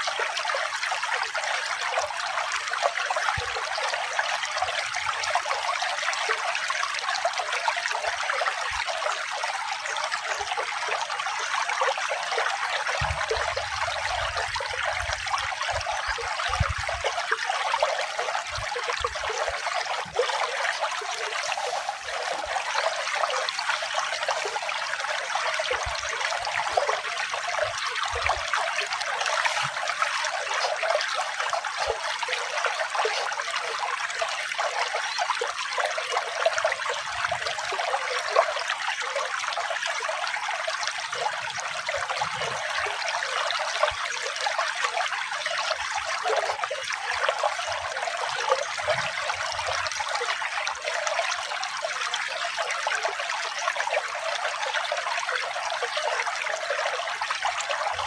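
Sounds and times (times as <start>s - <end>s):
running water trickling and splashing: 0.0s - 58.0s.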